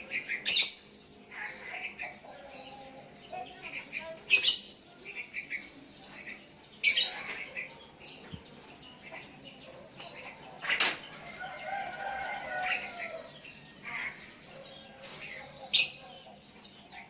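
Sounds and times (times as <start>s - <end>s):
birds chirping and whistling: 0.0s - 17.0s.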